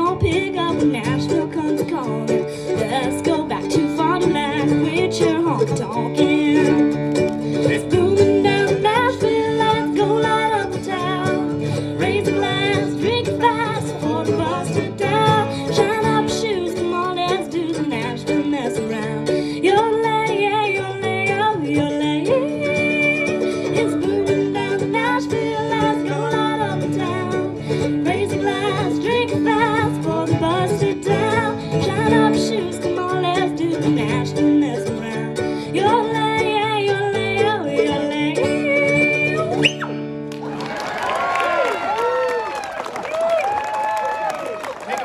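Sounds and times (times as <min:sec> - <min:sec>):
person singing: 0:00.0 - 0:40.0
acoustic guitar: 0:00.0 - 0:42.7
mandolin: 0:00.0 - 0:45.0.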